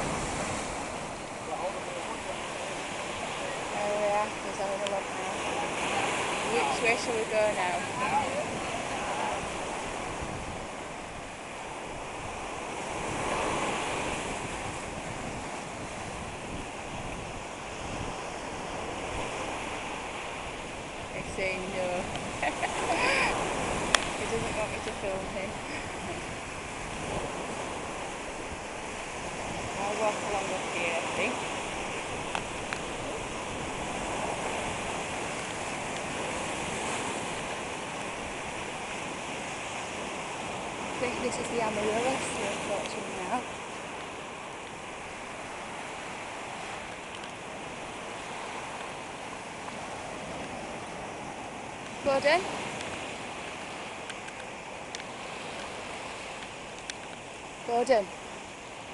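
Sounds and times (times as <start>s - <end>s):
waves breaking on rocky shore: 0.0s - 58.9s.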